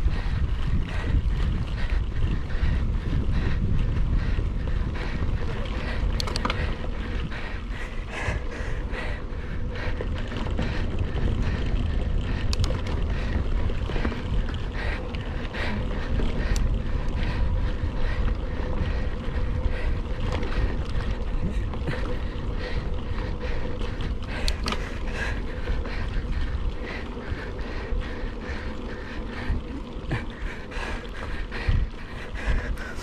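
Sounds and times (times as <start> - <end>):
bike rattling and clicking: 0.0 - 33.0
wind buffeting microphone: 0.0 - 33.0.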